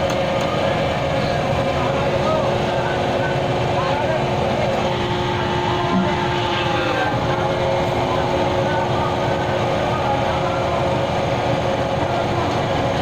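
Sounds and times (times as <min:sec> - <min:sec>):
large engine humming: 0:00.0 - 0:13.0.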